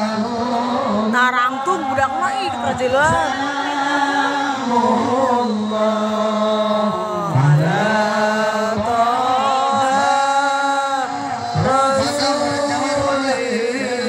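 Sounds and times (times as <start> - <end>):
devotional chanting: 0.0 - 14.0.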